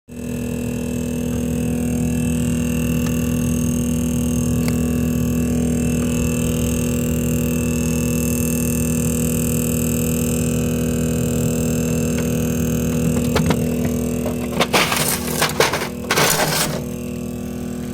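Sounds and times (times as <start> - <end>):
refrigerator fan humming: 0.2 - 17.9.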